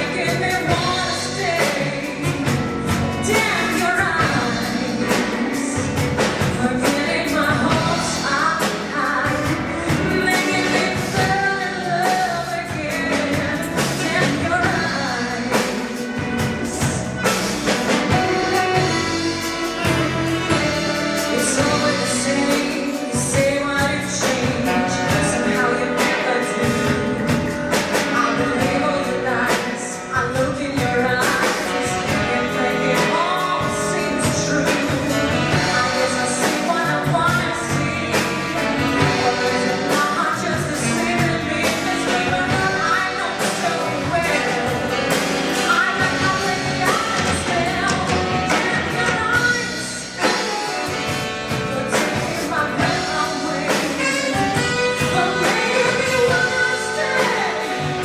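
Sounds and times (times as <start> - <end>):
jazz band playing: 0.0 - 58.0
woman singing into a microphone: 0.0 - 58.0.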